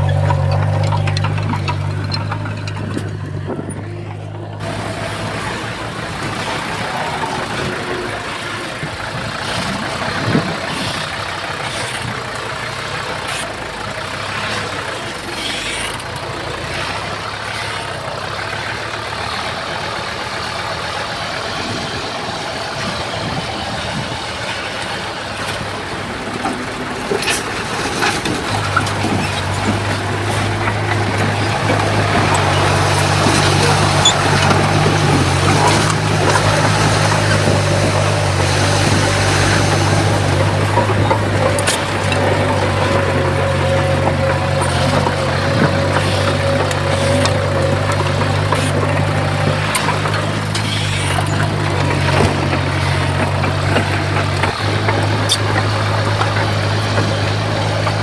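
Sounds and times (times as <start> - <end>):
diesel engines running: 0.0 - 58.0
machinery clanks and knocks: 0.0 - 58.0.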